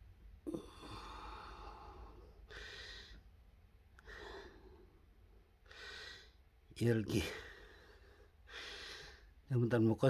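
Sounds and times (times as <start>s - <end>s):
soft breathing: 0.5s - 6.6s, 7.2s - 9.5s.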